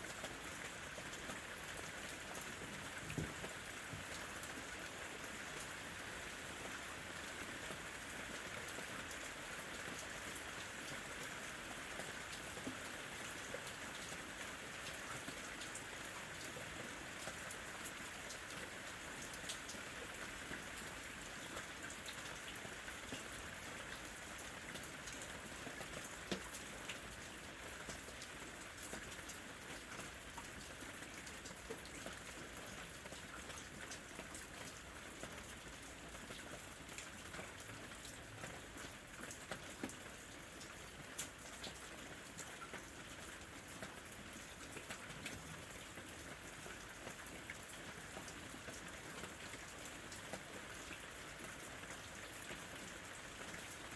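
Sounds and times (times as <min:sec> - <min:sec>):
light rain pattering: 0:00.0 - 0:53.9.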